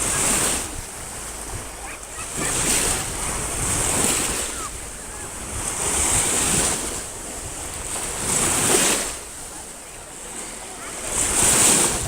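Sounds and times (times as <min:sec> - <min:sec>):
sea surf breaking: 0:00.0 - 0:12.0
wind buffeting microphone: 0:00.0 - 0:12.0.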